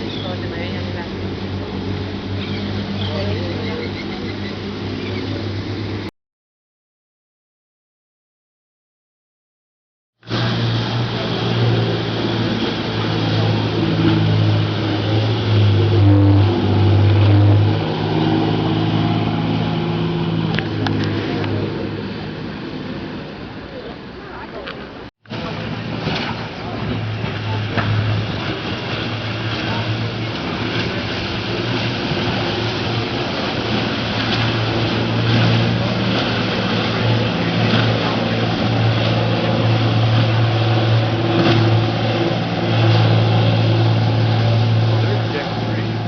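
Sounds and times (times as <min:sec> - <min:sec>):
boat engine drone: 0:00.0 - 0:06.1, 0:10.2 - 0:46.0
wind and water rushing: 0:00.0 - 0:06.1, 0:10.2 - 0:46.0.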